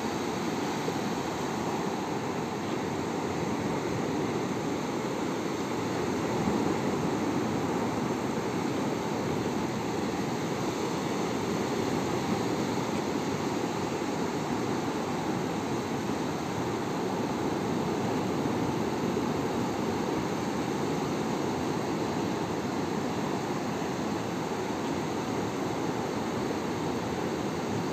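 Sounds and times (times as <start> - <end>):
wind: 0.0 - 27.9.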